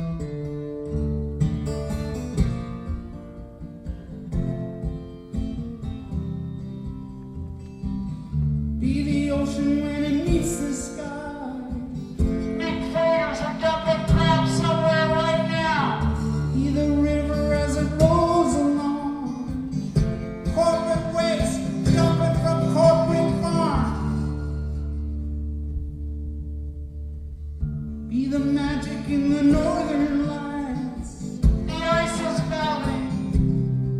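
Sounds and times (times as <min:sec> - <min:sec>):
acoustic guitar: 0:00.0 - 0:33.9.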